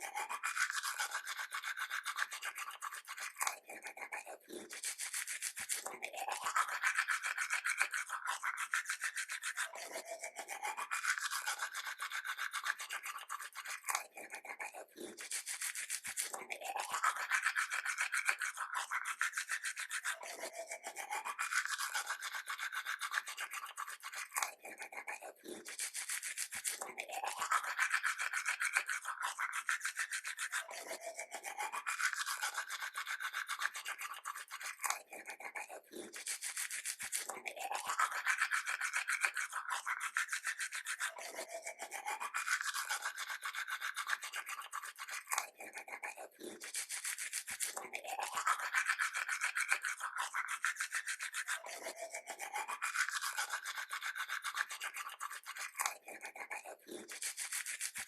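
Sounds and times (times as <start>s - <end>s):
toothbrush scrubbing teeth: 0.0s - 58.0s.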